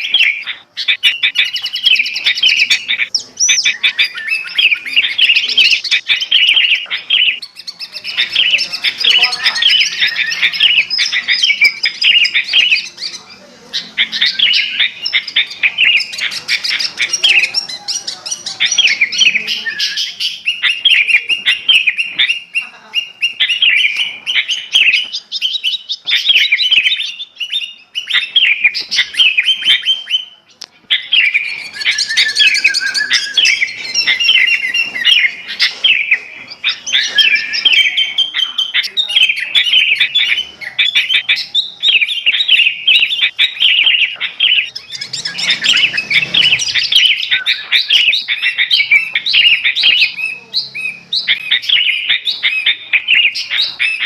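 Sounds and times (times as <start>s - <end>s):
bulbul chattering calls: 0.0s - 54.0s
small birds chirping: 0.0s - 54.0s.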